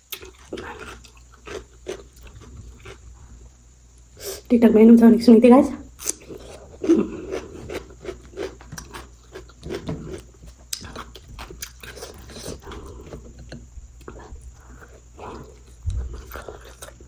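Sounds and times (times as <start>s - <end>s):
person chewing food: 0.0s - 4.0s, 6.0s - 17.0s.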